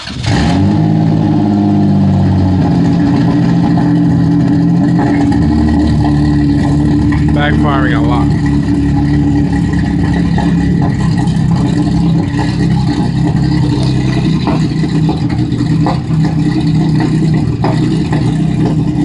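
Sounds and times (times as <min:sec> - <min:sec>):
car engine idling roughly: 0:00.0 - 0:19.0
engine backfire pops: 0:02.4 - 0:19.0.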